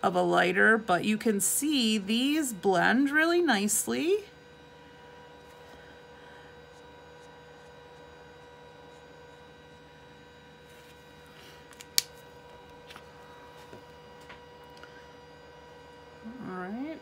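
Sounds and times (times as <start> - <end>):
electrical hum with whine: 0.0 - 17.0.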